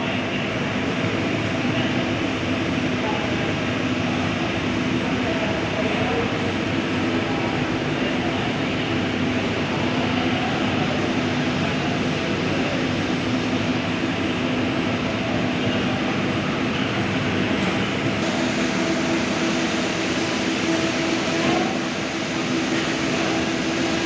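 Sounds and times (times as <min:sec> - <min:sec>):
exhaust hood fan running: 0:00.0 - 0:24.0.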